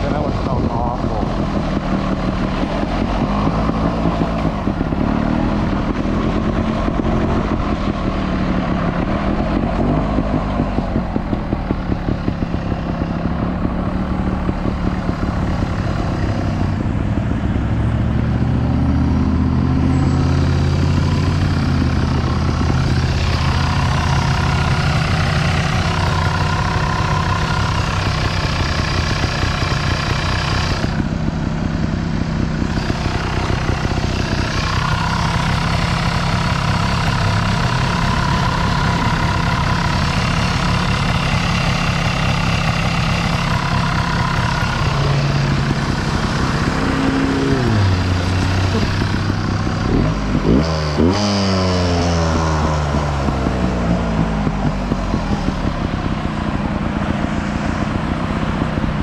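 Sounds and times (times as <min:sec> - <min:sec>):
motorbike engine running: 0:00.0 - 0:59.0.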